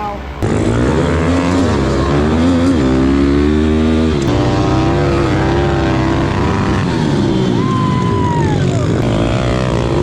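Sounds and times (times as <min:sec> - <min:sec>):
small motorcycle engine revving: 0:00.4 - 0:10.0.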